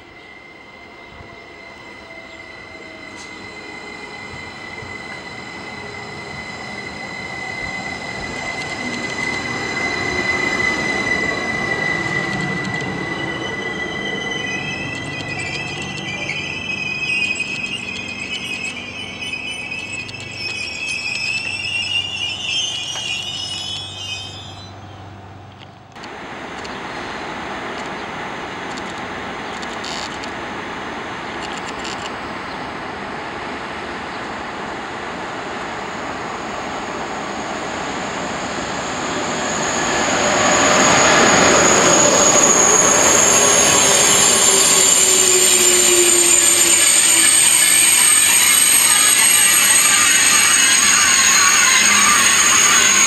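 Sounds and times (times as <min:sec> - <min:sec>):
slowly falling tone: 0:00.0 - 0:25.1, 0:34.6 - 0:53.0
train wheels squealing: 0:00.0 - 0:26.8, 0:28.7 - 0:30.4, 0:31.1 - 0:53.0
high-speed train rumbling past: 0:00.0 - 0:53.0
high steady tones: 0:00.1 - 0:25.5, 0:35.0 - 0:53.0.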